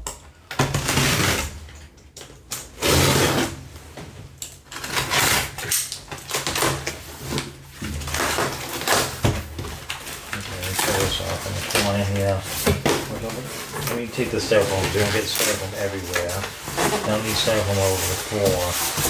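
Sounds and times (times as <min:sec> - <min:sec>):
cardboard and styrofoam scraping: 0:00.6 - 0:01.6, 0:02.8 - 0:03.7, 0:04.7 - 0:19.0.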